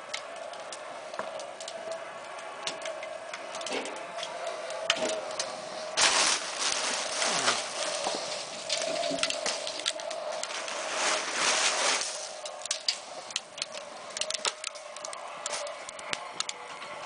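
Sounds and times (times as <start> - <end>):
hot pottery sizzling in water: 0.0 - 17.0
sharp ticks and crackles: 0.0 - 17.0
steady hum: 0.0 - 17.0.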